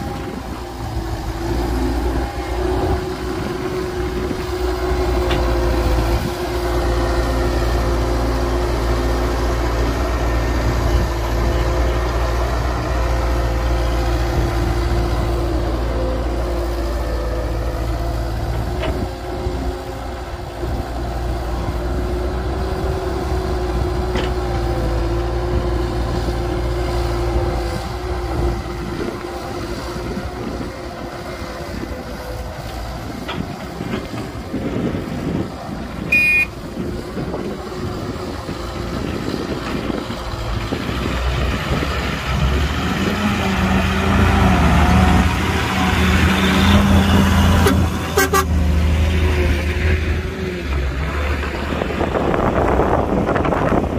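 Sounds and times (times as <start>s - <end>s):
heavy diesel machinery rumbling: 0.0s - 53.9s.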